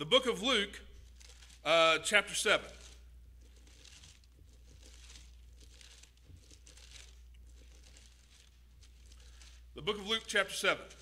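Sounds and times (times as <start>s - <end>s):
bible pages turning: 0.2s - 11.0s.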